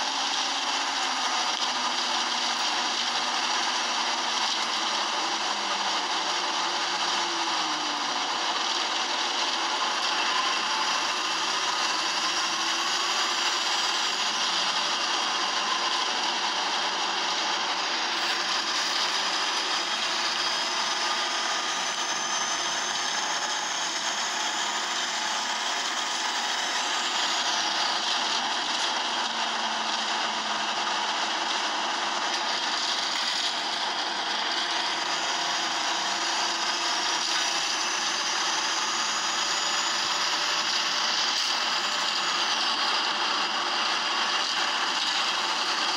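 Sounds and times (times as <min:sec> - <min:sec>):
bus engine whirr and whine: 0:00.0 - 0:45.9.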